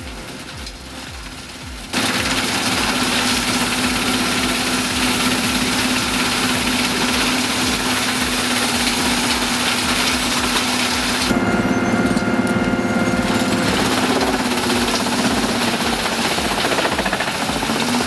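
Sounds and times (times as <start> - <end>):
dense mechanical din: 0.0 - 18.0
machine engine running: 0.0 - 18.0.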